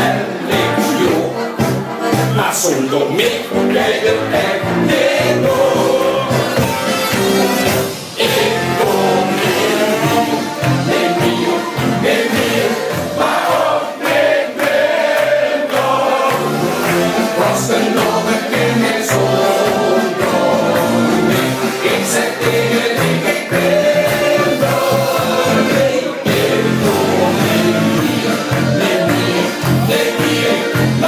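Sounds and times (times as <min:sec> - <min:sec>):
men singing together: 0:00.0 - 0:01.5, 0:02.5 - 0:31.0
upbeat music with steady beat: 0:00.0 - 0:31.0.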